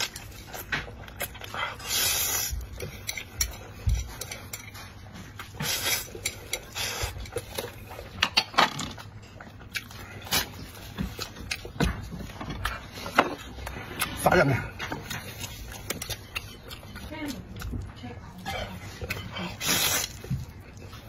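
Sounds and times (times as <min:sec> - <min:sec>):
person chewing noodles: 0:00.0 - 0:21.0.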